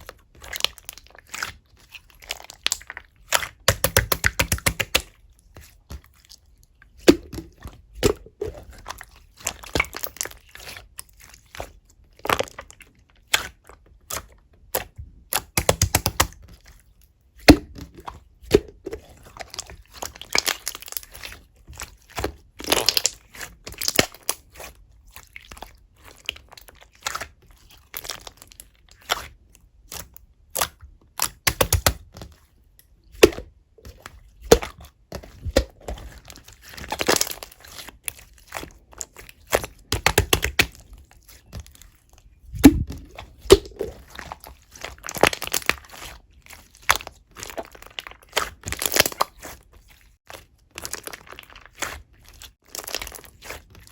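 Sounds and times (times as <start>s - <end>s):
slime squished by hand: 0.4s - 16.6s, 17.4s - 32.2s, 33.1s - 53.9s.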